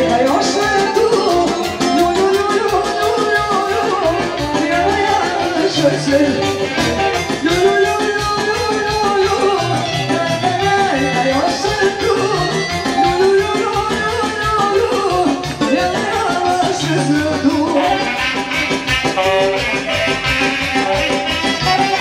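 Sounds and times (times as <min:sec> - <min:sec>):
folk dance band with accordion: 0:00.0 - 0:22.0.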